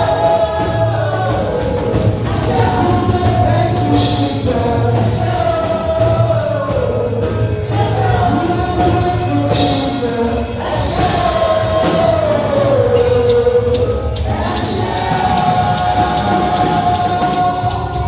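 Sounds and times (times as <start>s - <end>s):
gospel singing with band: 0.0s - 18.0s.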